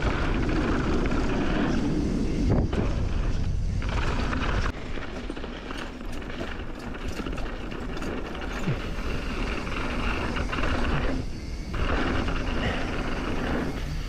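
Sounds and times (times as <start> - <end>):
bike rattles and clicks: 0.0 - 14.0
bike tyre and trail noise: 0.0 - 14.0.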